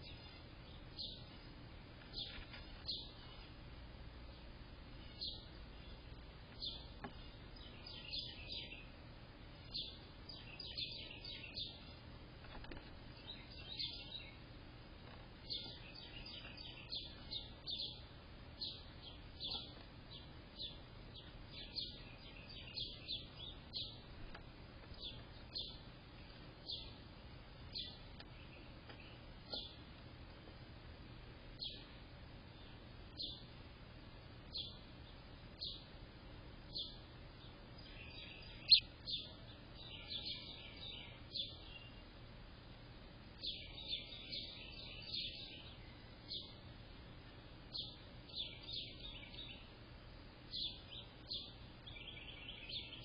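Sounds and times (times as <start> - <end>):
small bird chirping: 0.0 - 30.0, 31.4 - 33.6, 34.2 - 36.0, 36.6 - 42.3, 43.3 - 53.0
steady background hiss: 0.0 - 53.0.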